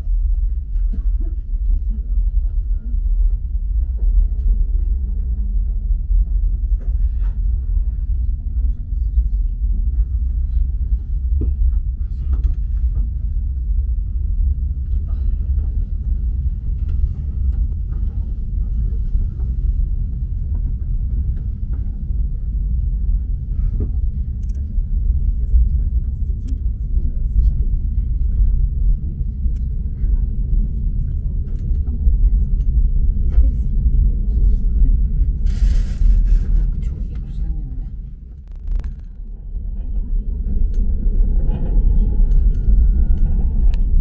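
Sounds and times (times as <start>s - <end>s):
train carriage rumble: 0.0s - 44.0s.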